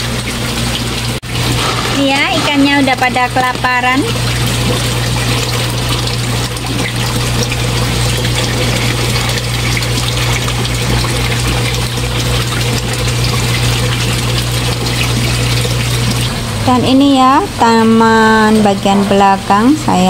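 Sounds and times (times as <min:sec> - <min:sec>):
fish tank pump humming: 0:00.0 - 0:20.0
water churning and bubbling: 0:00.0 - 0:20.0.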